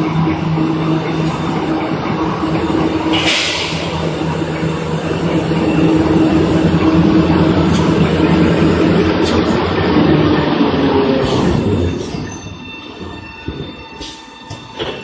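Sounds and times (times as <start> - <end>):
machine humming and droning: 0.0 - 15.0.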